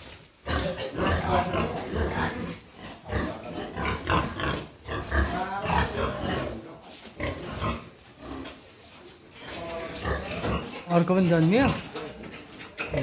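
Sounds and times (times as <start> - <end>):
pigs grunting: 0.4 - 8.7, 9.3 - 13.0.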